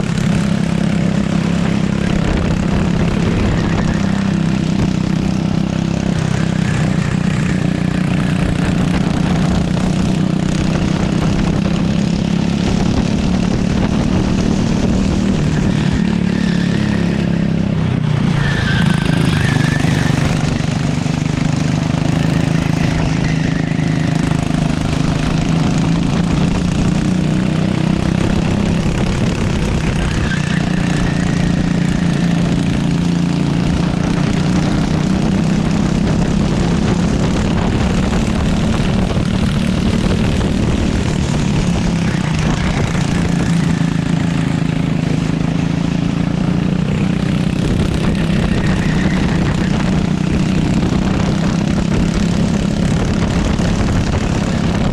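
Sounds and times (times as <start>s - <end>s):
kart engine running hard: 0.0s - 54.9s.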